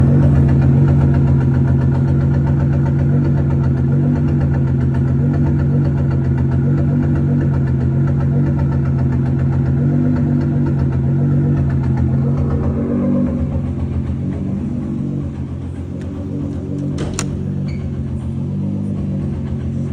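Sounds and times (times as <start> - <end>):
car engine idling: 0.0 - 19.9
exhaust tapping: 0.0 - 19.9.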